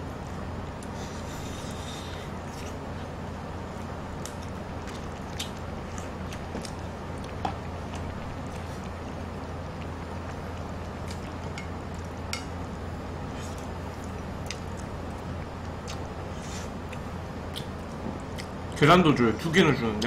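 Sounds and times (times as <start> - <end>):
steady low hum: 0.0 - 20.0
soft chewing: 0.2 - 12.5, 13.3 - 18.8.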